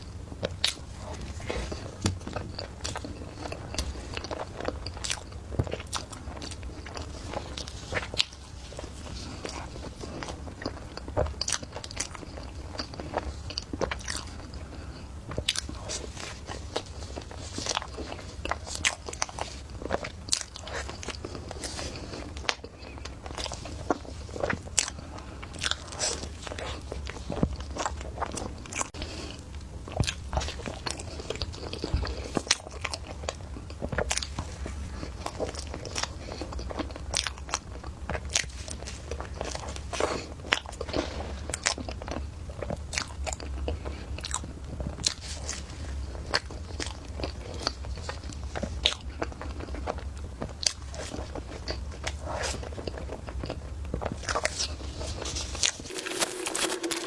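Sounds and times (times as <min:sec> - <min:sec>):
crunchy chewing: 0:00.0 - 0:57.0
low steady hum: 0:00.0 - 0:57.0.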